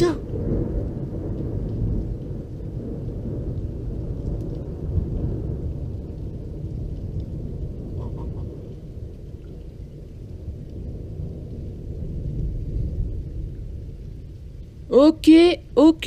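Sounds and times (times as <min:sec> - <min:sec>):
thunder rolling rumble: 0:00.0 - 0:16.0.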